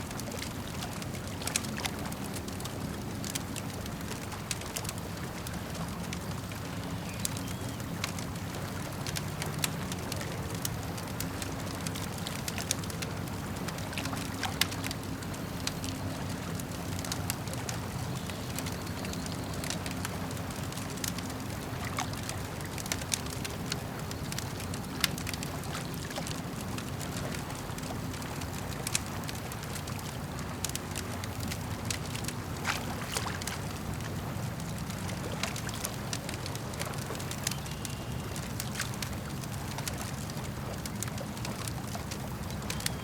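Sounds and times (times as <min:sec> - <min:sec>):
lake water lapping at shore: 0:00.0 - 0:43.0
campfire crackling and popping: 0:00.1 - 0:43.0.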